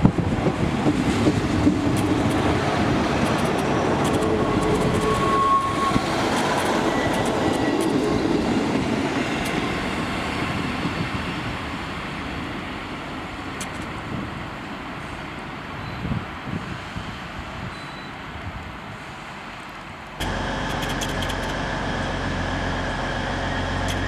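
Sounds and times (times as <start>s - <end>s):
diesel train passing: 0.0s - 15.8s, 20.2s - 24.0s.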